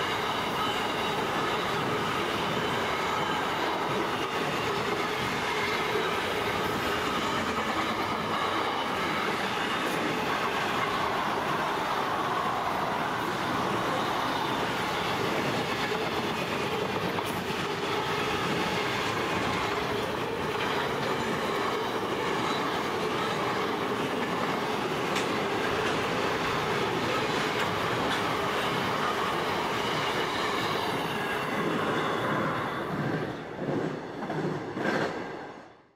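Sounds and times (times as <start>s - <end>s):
freight train wheels rumbling: 0.0s - 35.7s.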